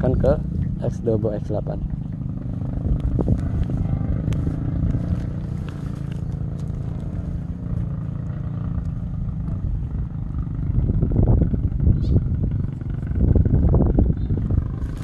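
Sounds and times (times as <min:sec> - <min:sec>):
distant loud bass music: 0:00.0 - 0:15.0.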